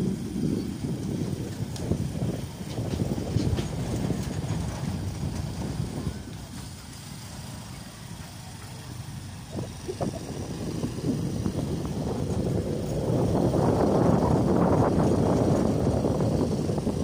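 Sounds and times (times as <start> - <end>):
vehicle rumble: 0.0 - 17.0
wind buffeting microphone: 0.0 - 17.0.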